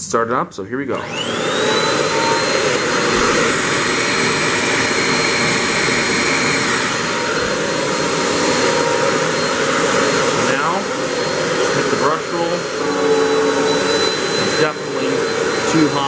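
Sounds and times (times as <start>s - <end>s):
vacuum cleaner motor: 0.9s - 16.0s.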